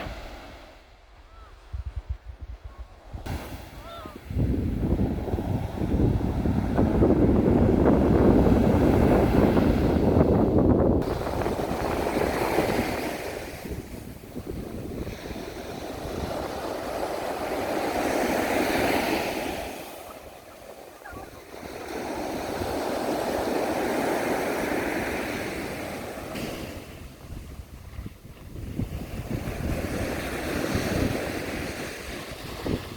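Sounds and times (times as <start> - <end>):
sea waves washing onto sand: 3.2 - 32.9.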